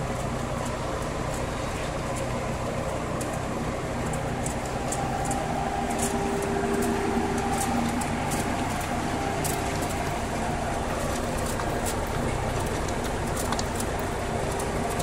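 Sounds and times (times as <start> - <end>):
motors and conveyor droning: 0.0 - 15.0.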